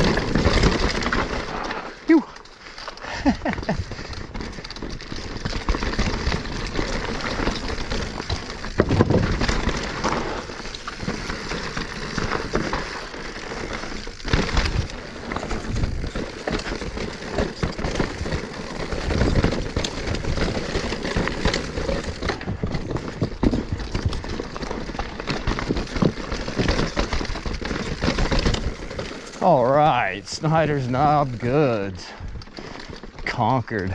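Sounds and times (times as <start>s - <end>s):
bike knocking over bumps: 0.0s - 1.7s, 3.2s - 29.4s
bike chain and frame clattering: 0.0s - 33.9s
bike tyres crunching over rock: 0.0s - 33.9s.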